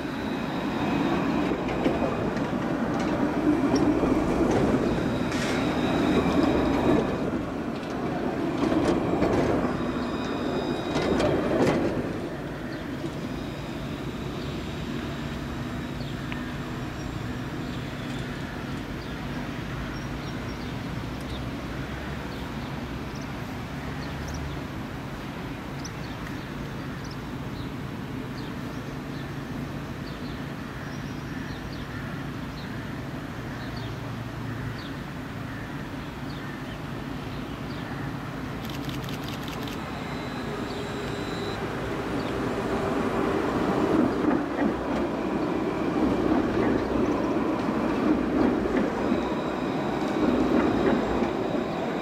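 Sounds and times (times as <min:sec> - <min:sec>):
tram wheels rumbling on rail: 0:00.0 - 0:32.4, 0:33.0 - 0:52.0.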